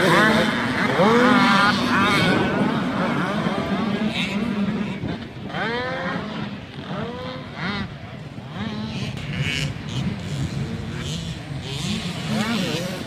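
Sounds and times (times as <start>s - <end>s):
drone of other bikes: 0.0s - 13.0s
motocross bikes revving: 0.0s - 13.0s.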